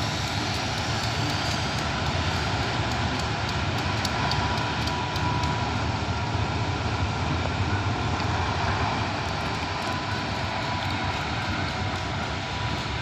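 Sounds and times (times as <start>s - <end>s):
locomotive engines droning: 0.0s - 13.0s.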